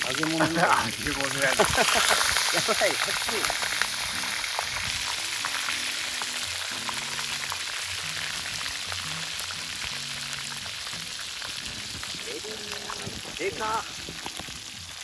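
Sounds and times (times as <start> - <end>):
oil sizzling and crackling in a pan: 0.0 - 15.0.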